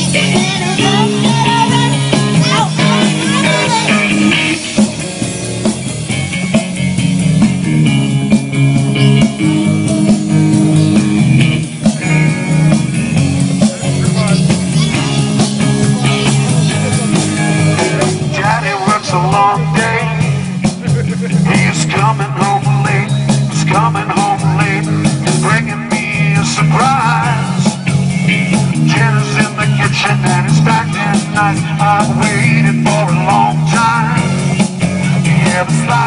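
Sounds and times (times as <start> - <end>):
bass: 0.0 - 36.0
drums: 0.0 - 36.0
electric guitar: 0.0 - 36.0.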